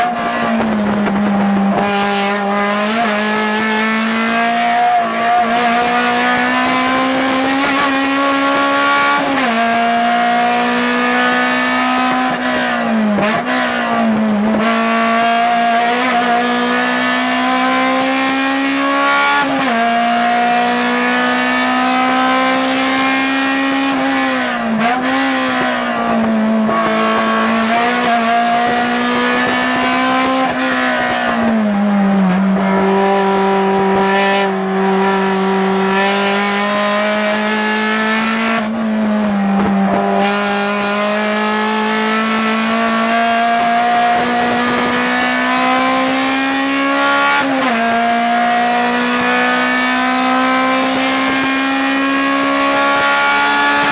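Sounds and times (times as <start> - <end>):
race car engine revving hard: 0.0 - 53.9.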